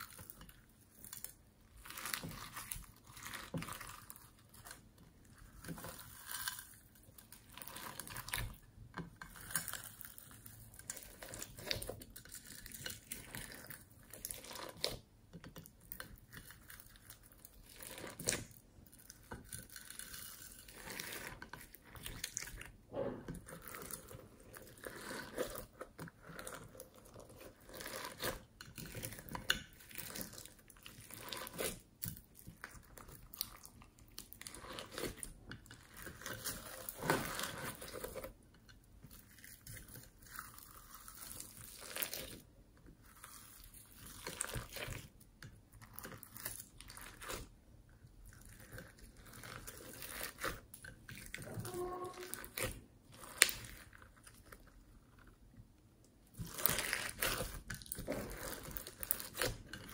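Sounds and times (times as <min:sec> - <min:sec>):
slime crackling and squishing: 0:00.0 - 0:59.9.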